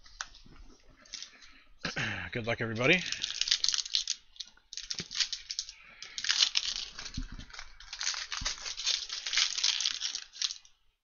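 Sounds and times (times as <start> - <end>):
foil wrapper crinkling: 2.0 - 10.8.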